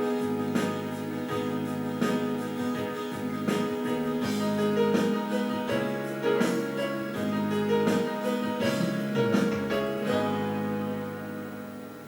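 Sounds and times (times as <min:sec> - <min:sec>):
instrumental music with light beat: 0:00.0 - 0:12.0.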